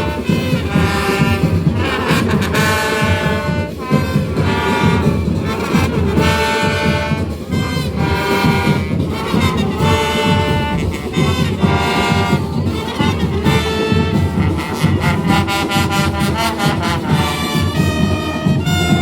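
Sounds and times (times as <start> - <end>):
brass instruments: 0.0 - 19.0
fast steady drumming: 0.0 - 19.0.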